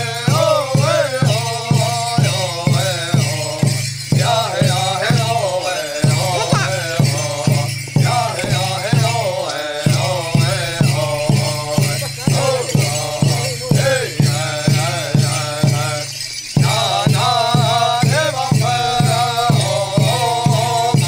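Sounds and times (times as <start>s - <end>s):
chorus of voices chanting: 0.0s - 21.0s
hand drum beat: 0.0s - 21.0s
rattles and jingles shaking: 0.0s - 21.0s.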